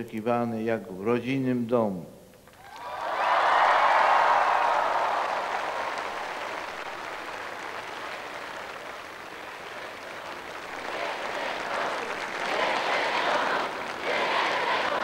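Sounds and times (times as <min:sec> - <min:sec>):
crowd applauding and cheering: 0:02.5 - 0:15.0.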